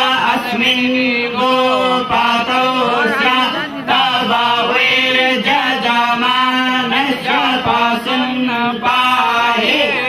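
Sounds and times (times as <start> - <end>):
men chanting together: 0.0 - 10.0.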